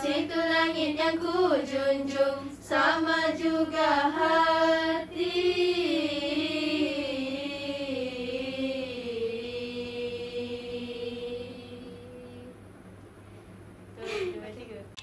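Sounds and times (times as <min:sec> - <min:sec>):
women's voices singing: 0:00.0 - 0:12.6.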